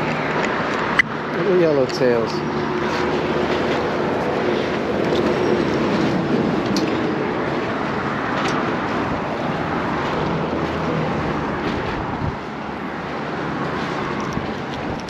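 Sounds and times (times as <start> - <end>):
wind rushing across microphone: 0.0 - 15.0.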